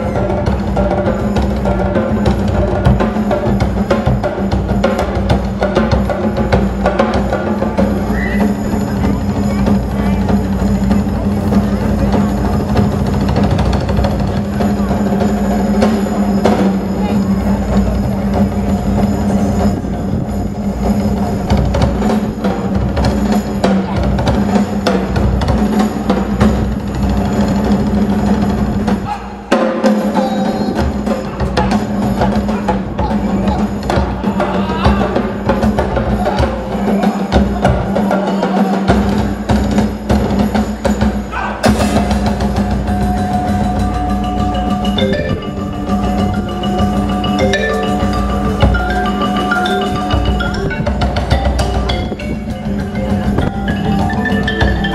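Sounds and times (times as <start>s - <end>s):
marimbas and drums playing: 0.0s - 54.9s.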